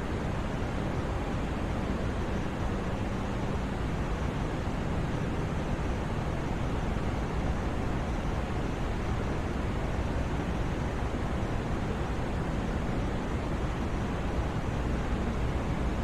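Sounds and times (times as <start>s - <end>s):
steady white noise hiss: 0.0s - 16.0s.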